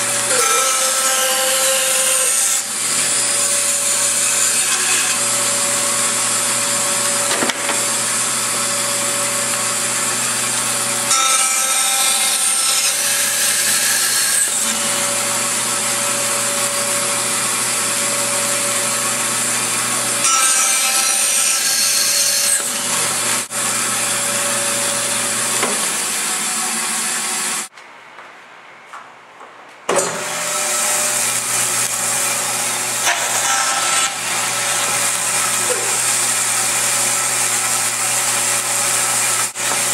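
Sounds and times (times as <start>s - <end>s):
power saw cutting wood: 0.0s - 27.7s, 29.9s - 39.9s.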